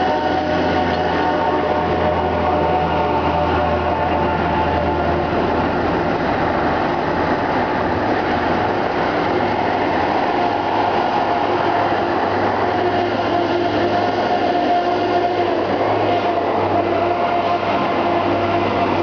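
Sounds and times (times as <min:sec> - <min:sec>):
bicycle road noise: 0:00.0 - 0:19.0
heavy trucks and machinery: 0:00.0 - 0:19.0.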